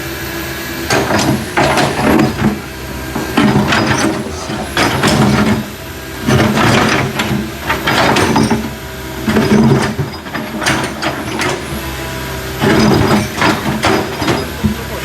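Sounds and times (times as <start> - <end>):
backhoe diesel engine working: 0.0 - 15.0.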